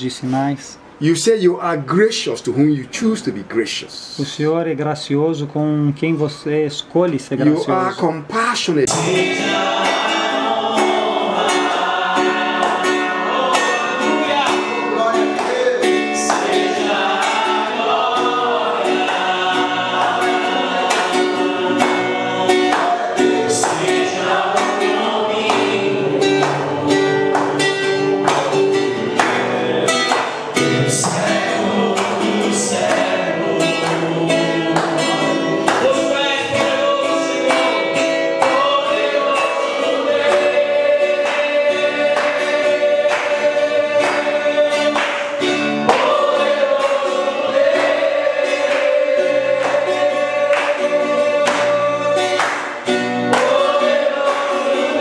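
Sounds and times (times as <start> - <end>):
congregation singing: 8.8 - 55.0.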